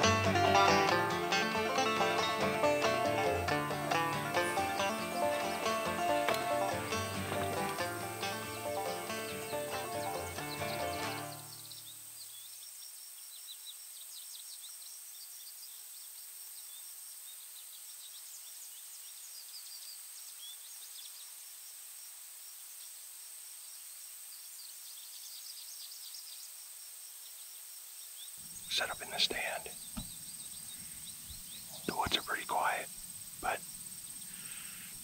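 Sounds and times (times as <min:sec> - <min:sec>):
small birds chirping: 0:00.0 - 0:21.4, 0:23.6 - 0:35.0
steady high hiss: 0:00.0 - 0:35.0.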